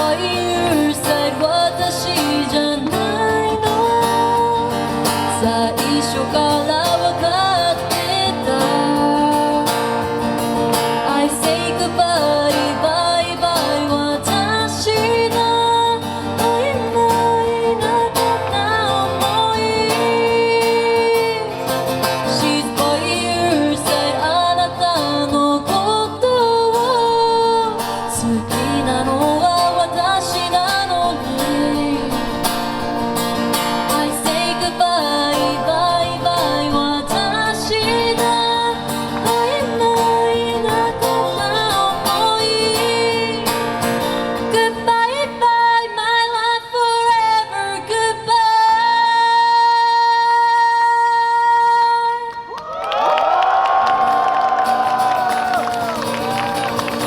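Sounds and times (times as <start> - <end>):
acoustic guitar: 0.0 - 52.5, 53.2 - 57.0
woman singing: 0.0 - 52.6.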